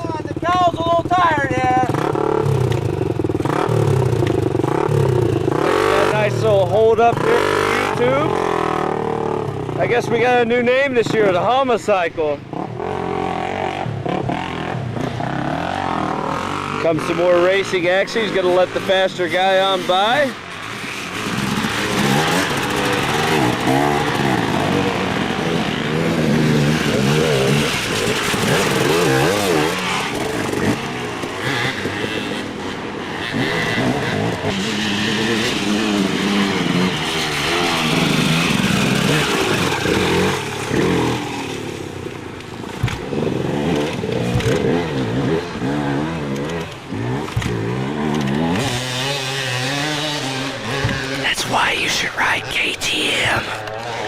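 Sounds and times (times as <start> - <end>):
dirt bike engines revving: 0.0 - 51.2.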